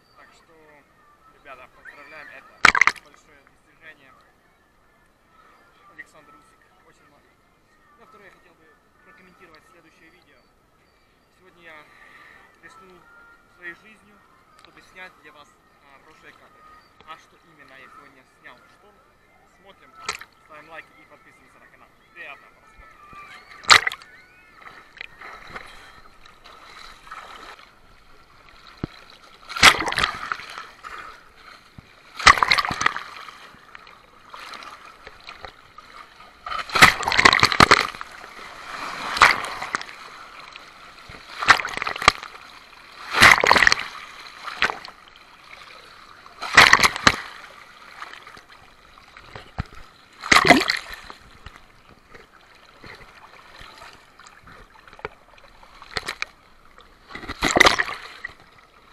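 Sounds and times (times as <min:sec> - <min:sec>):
sea water splashing: 0:00.2 - 0:07.3, 0:12.0 - 0:58.9.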